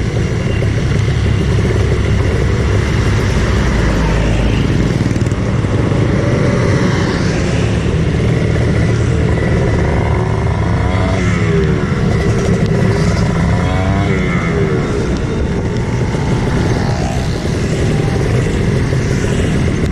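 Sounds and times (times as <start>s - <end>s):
motorcycle engine droning: 0.0s - 19.9s
road and wind noise: 0.0s - 19.9s.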